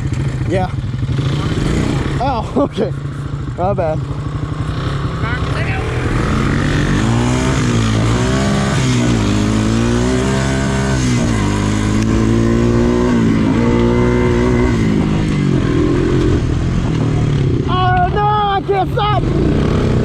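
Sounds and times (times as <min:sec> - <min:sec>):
quad bike engine revving: 0:00.0 - 0:20.0.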